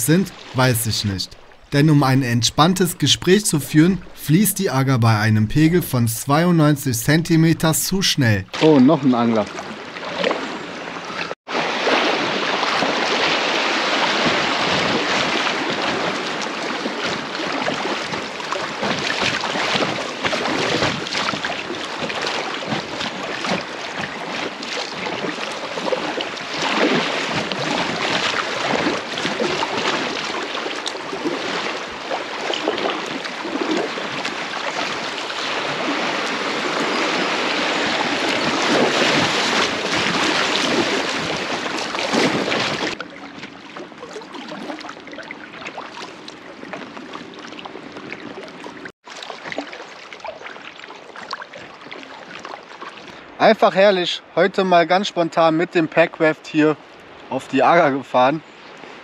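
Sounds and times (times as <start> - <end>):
river water rushing and splashing: 0.0 - 53.4.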